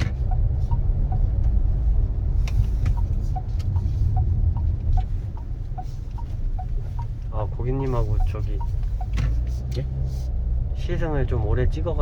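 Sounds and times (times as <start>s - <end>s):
road and engine rumble: 0.0s - 12.0s
turn signal ticking: 0.0s - 12.0s.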